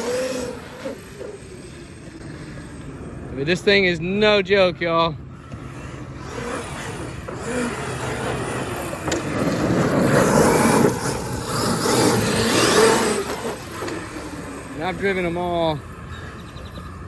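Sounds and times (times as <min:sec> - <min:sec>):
rc truck motor whirring: 0:00.0 - 0:03.3, 0:05.3 - 0:17.0.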